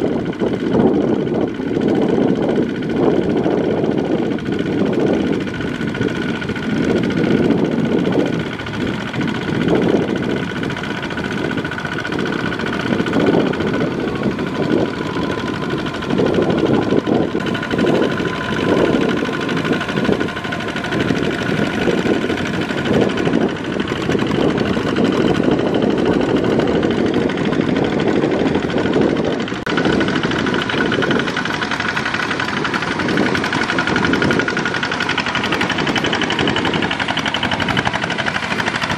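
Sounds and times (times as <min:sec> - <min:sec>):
diesel tractor engine running: 0:00.0 - 0:38.9
wheels churning through mud and water: 0:00.0 - 0:38.9.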